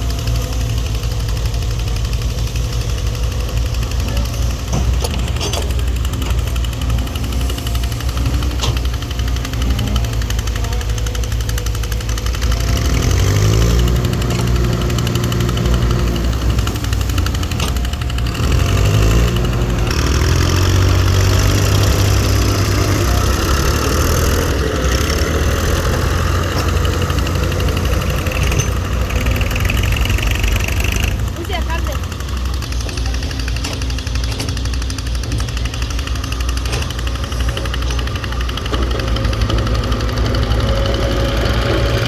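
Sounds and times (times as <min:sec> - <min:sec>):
diesel engine knocking and revving: 0:00.0 - 0:42.0.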